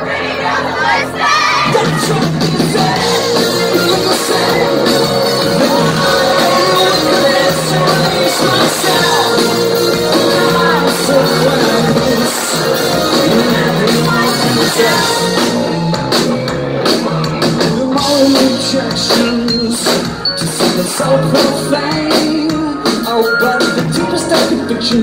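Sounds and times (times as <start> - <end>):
live rock band playing: 0.2 - 25.0
person singing: 1.6 - 15.9, 16.9 - 25.0.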